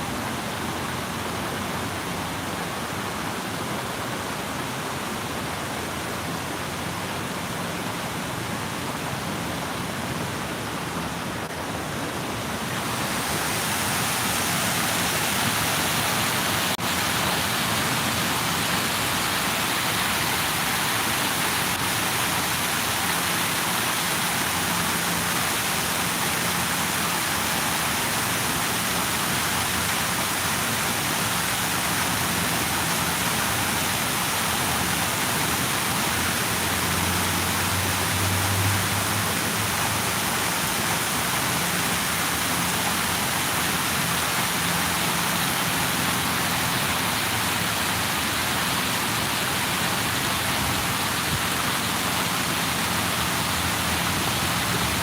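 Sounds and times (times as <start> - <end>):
falling water rushing: 0.0 - 55.0.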